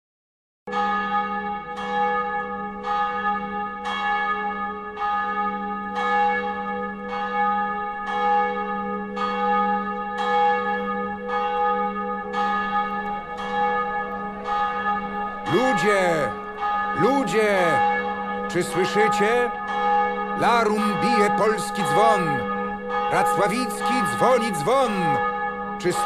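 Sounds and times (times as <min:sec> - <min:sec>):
large bell tolling: 0:00.7 - 0:26.0.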